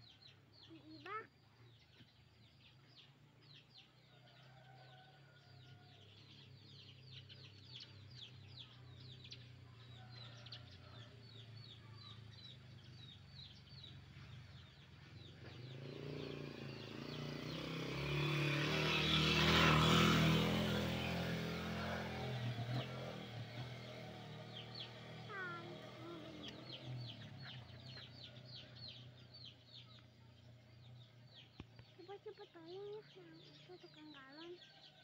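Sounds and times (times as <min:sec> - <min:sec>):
motorcycle passing: 0:00.0 - 0:35.0
sparrows chirping: 0:00.0 - 0:35.0.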